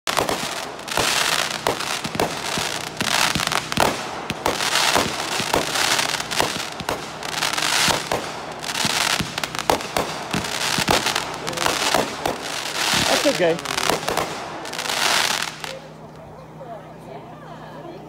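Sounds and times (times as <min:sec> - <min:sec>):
firework bangs: 0:00.1 - 0:15.9
firework hissing: 0:00.1 - 0:16.0.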